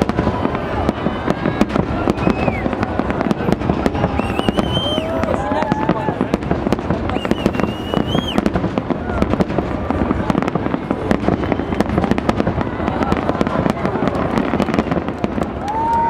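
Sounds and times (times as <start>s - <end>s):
firework whistle: 0.0s - 10.0s, 10.7s - 16.0s
fireworks bursting and crackling: 0.0s - 16.0s.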